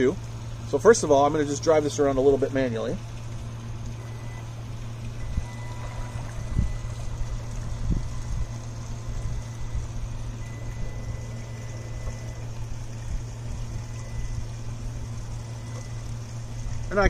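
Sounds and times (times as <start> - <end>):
electric motors humming: 0.0 - 17.0.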